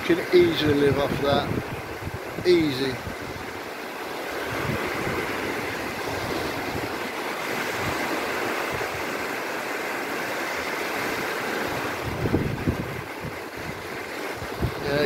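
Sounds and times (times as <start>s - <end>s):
small waves washing: 0.0s - 15.0s.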